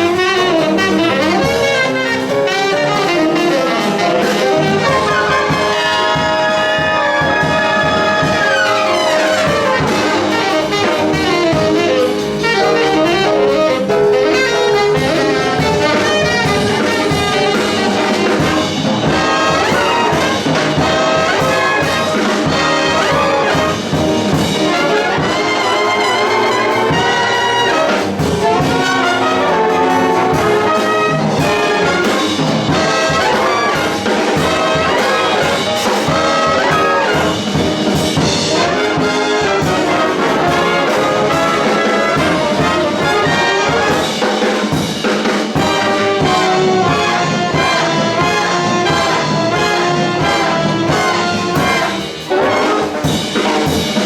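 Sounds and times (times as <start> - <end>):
big band brass playing swing jazz: 0.0 - 54.0.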